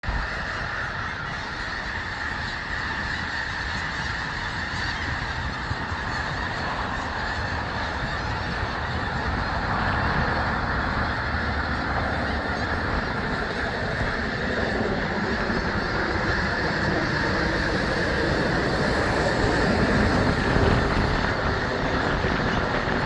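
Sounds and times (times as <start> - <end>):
flock of birds cackling: 0.0 - 23.0.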